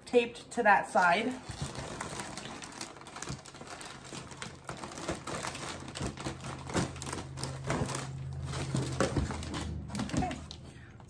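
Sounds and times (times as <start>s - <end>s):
paper wrap crinkling: 0.9s - 10.7s.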